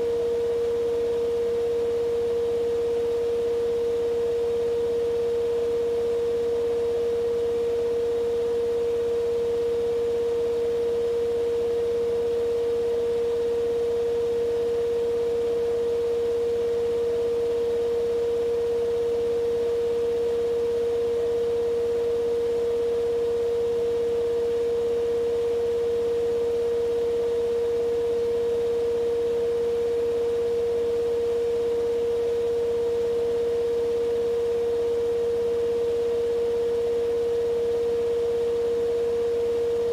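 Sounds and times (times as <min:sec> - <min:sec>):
washing machine spin cycle: 0:00.0 - 0:39.9.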